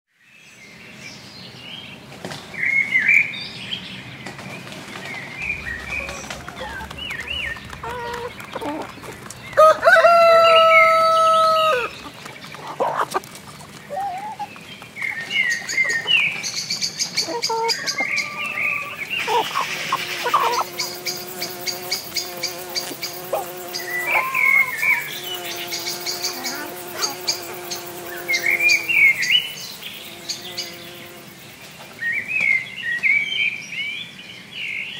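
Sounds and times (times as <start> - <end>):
small birds chirping: 2.7 - 34.9.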